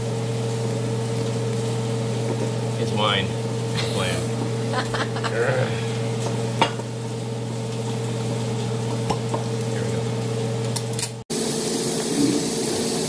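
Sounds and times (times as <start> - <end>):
ventilation fan humming: 0.0 - 13.0.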